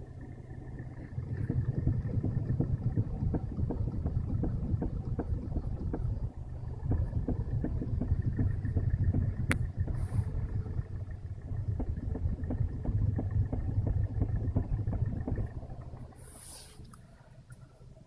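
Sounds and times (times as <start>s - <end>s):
low steady hum: 0.0s - 18.0s
steering knocking: 0.0s - 18.0s.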